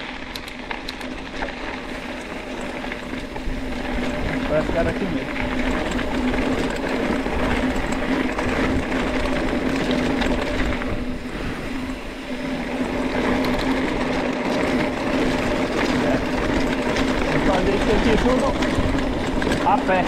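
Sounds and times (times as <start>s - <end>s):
bike rolling and rattling: 0.0s - 20.0s.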